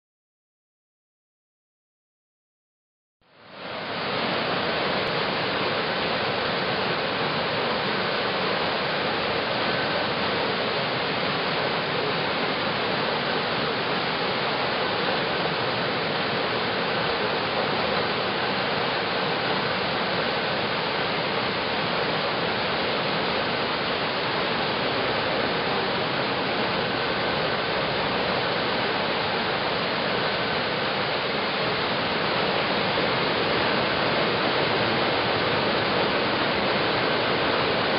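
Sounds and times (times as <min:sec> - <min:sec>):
water rushing at waterwheel: 0:03.2 - 0:37.9.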